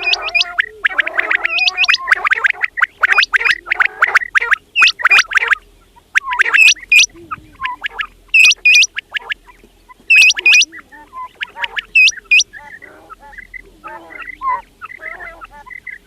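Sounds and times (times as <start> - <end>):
quail calling: 0.0 - 16.0
soft low chirps: 0.0 - 16.0.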